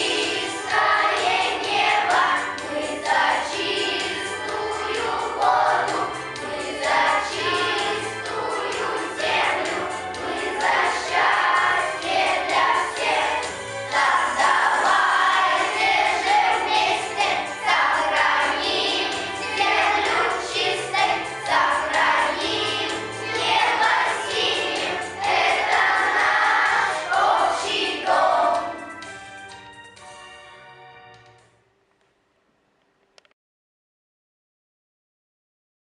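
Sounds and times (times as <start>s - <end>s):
children singing together: 0.0s - 28.9s
instrumental backing music: 0.0s - 32.2s.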